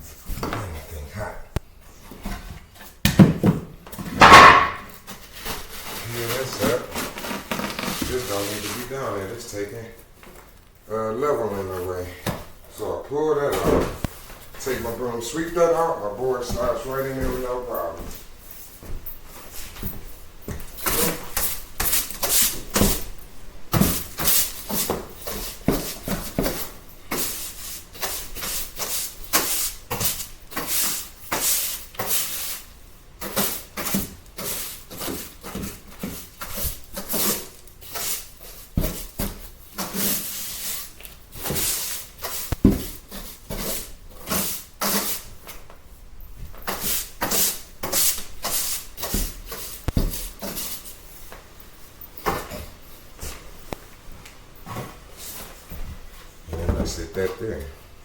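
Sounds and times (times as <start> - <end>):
broom sweeping a floor: 4.0 - 10.0, 13.5 - 57.9.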